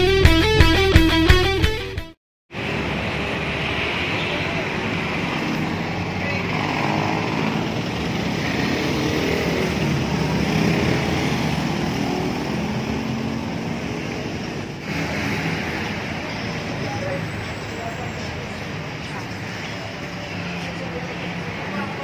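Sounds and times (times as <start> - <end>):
road traffic rumble: 2.5 - 22.0.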